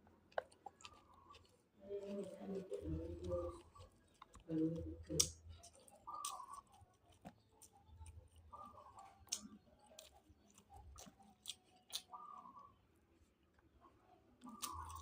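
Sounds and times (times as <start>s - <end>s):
person chewing: 0.0s - 13.7s, 14.4s - 15.0s.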